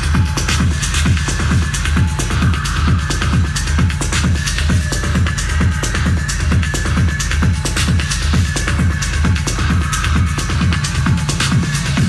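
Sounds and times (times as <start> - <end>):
kick drum: 0.0 - 12.0
techno music: 0.0 - 12.0
ticking hi-hats: 0.0 - 12.0.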